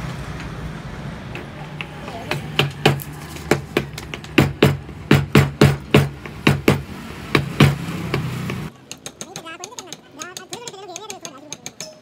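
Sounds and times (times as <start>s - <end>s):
sharp knocks: 1.3s - 12.0s.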